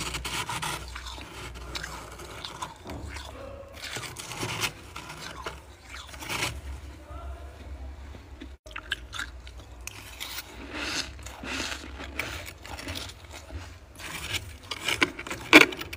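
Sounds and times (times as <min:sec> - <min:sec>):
freezer frost crunching: 0:00.0 - 0:15.9.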